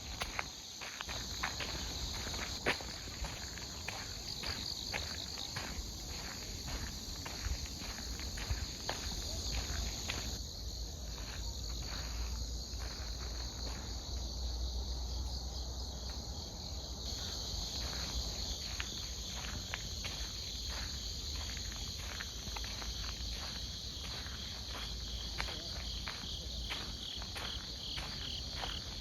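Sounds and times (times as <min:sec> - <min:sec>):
footsteps on path: 0:00.0 - 0:14.6, 0:16.0 - 0:29.0
insects chirping: 0:00.0 - 0:29.0.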